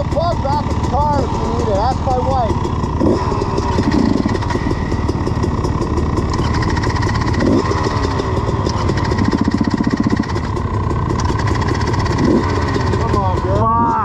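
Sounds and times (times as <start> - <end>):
dirt bike engines idling: 0.0 - 14.0.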